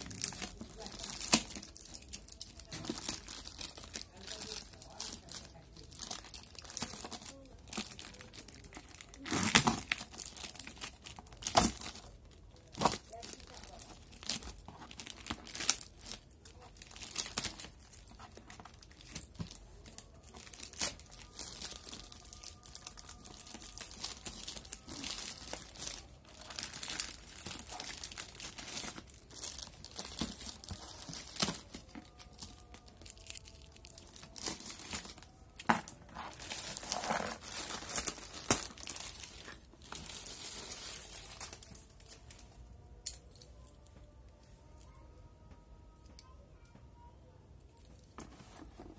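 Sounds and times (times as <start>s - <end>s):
plastic bag tearing and crinkling: 0.0s - 42.4s.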